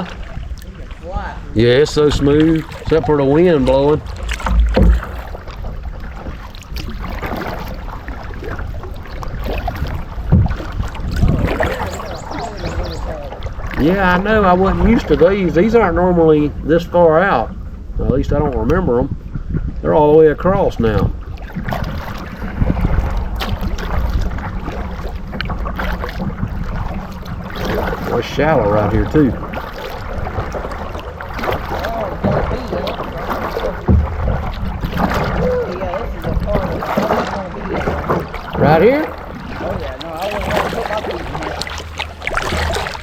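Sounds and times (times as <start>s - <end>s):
paddle splashing in water: 0.0s - 43.0s
wind rumble on microphone: 0.0s - 43.0s.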